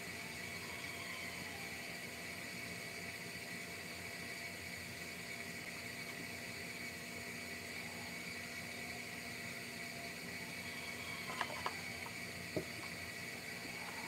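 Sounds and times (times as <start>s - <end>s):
faint constant hum: 0.0s - 14.0s
steady background hiss: 0.0s - 14.0s.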